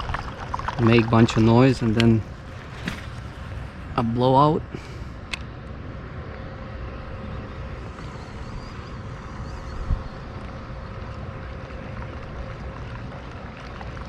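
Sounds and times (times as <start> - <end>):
wind buffeting microphone: 0.0 - 5.3, 6.0 - 14.0.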